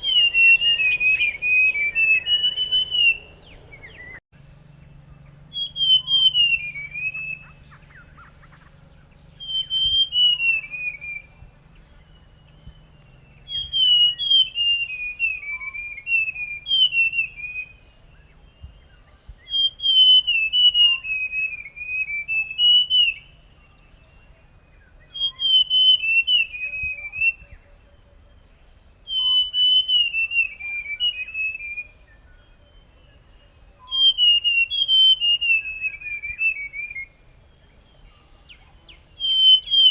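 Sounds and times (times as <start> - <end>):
bird whistling song phrases: 0.0 - 4.2, 5.1 - 39.9.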